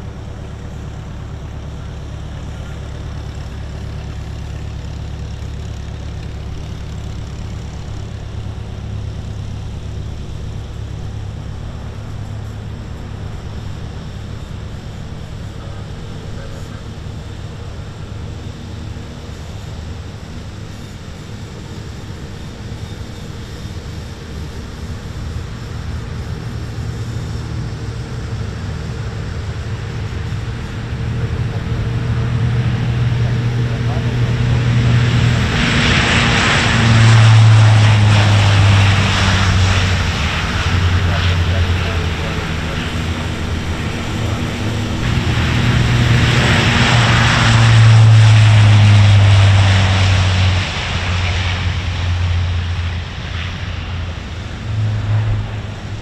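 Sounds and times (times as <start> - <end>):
distant turboprop engines droning: 0.0 - 56.0.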